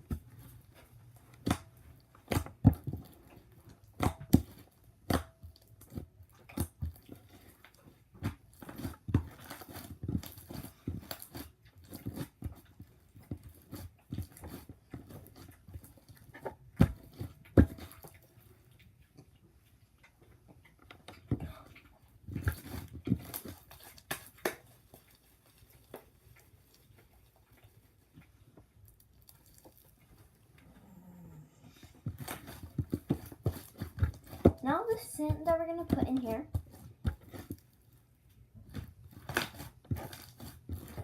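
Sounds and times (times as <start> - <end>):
slime squishing by hand: 0.0 - 41.0.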